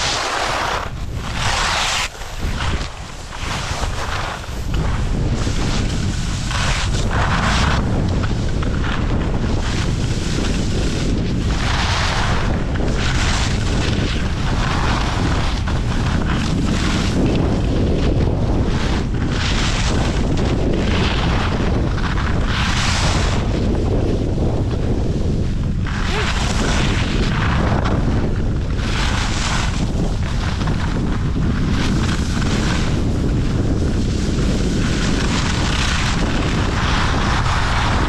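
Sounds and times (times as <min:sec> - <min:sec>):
skis carving on snow: 0:00.0 - 0:38.0
wind buffeting microphone: 0:00.0 - 0:38.0.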